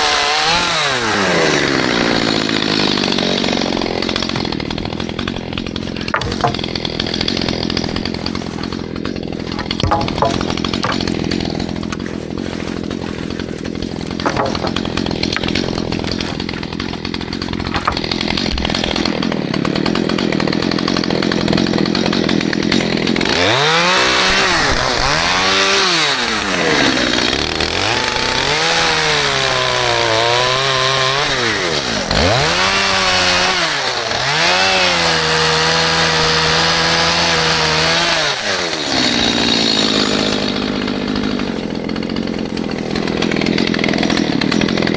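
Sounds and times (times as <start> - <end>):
chainsaw idling and revving: 0.0 - 44.9.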